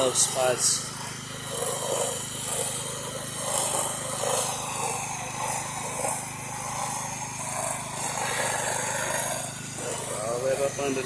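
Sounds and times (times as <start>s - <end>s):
pressure washer engine running: 0.0s - 11.0s
spray wand hissing: 0.0s - 11.0s.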